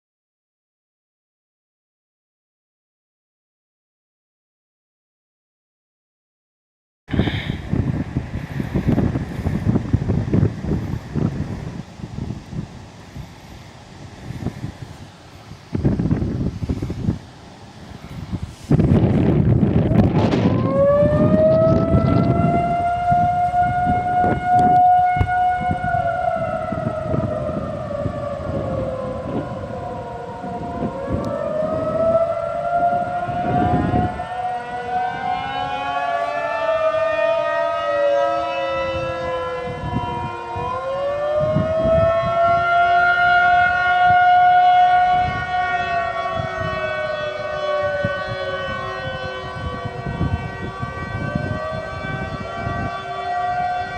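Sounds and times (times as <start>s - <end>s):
warning sirens wailing: 7.1s - 53.9s
wind buffeting microphone: 7.1s - 53.9s.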